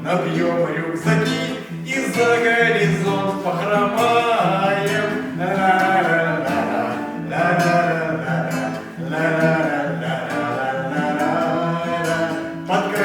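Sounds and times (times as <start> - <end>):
acoustic guitar: 0.0 - 13.0
person singing: 0.0 - 13.0.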